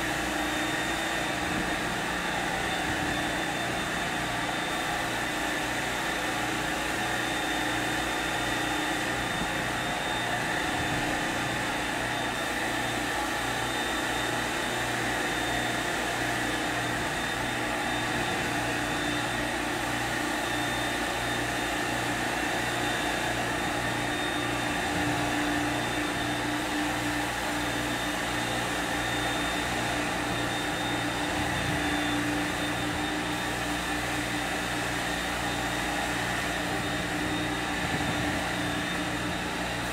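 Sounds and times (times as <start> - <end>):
carpet cleaner suction rush: 0.0 - 39.9.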